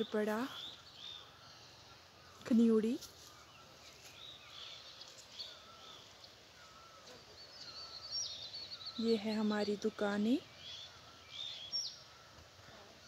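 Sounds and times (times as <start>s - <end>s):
birds chirping and whistling: 0.0s - 12.6s
low steady background hiss: 0.0s - 13.0s.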